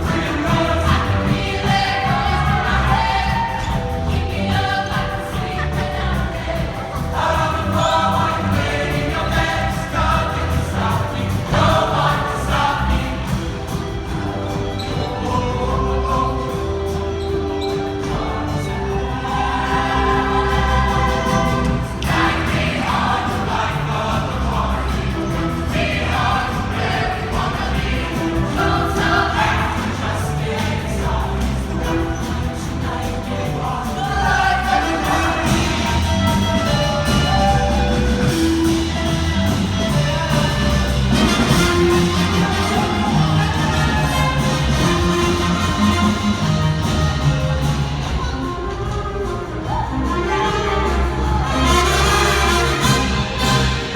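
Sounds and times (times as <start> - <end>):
choir singing: 0.0 - 53.9
low bass voices: 0.0 - 53.9.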